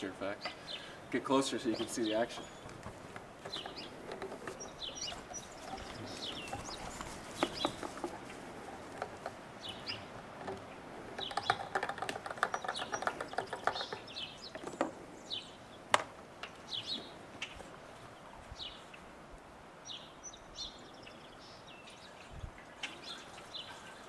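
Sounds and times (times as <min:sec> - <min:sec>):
small birds chirping: 0:00.0 - 0:19.1, 0:19.8 - 0:24.0.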